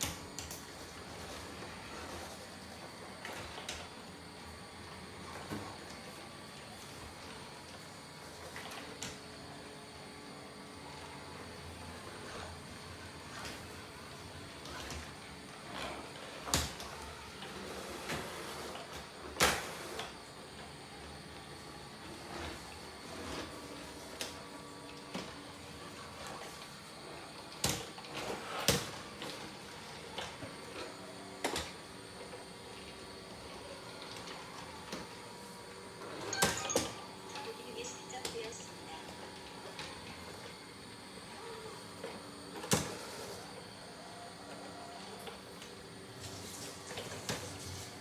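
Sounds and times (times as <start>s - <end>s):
robot vacuum cleaner humming: 0.1s - 48.0s.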